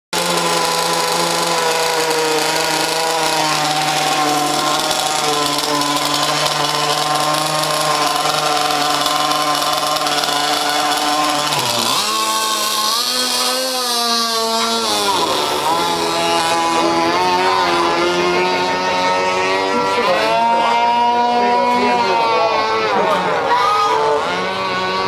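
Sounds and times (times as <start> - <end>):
model boat engine revving: 0.1 - 25.0.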